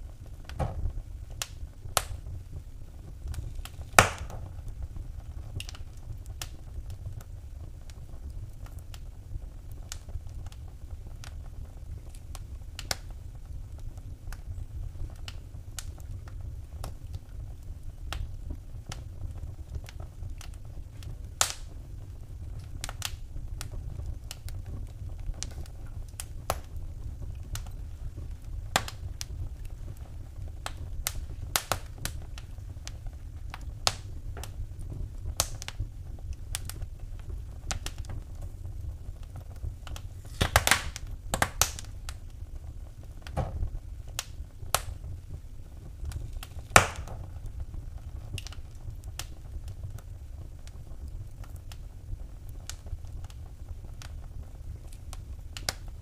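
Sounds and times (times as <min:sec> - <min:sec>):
low steady rumble: 0:00.0 - 0:55.5
fire pops and snaps: 0:00.0 - 0:56.0
wood fire crackling: 0:00.0 - 0:56.0.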